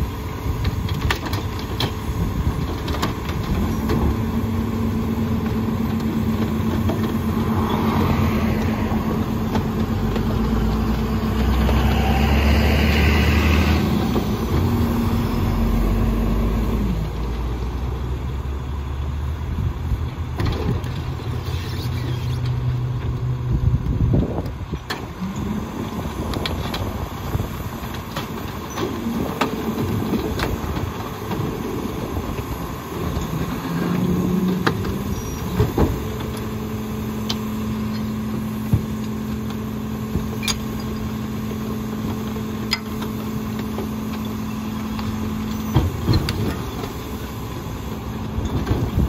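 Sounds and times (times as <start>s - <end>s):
garbage truck engine and hydraulics: 0.0s - 49.0s.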